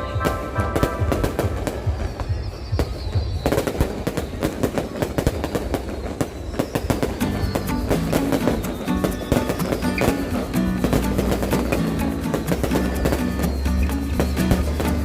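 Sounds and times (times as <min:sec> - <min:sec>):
faint high whistle: 0:00.0 - 0:10.7, 0:11.8 - 0:15.0
fireworks bangs and crackles: 0:00.0 - 0:15.0.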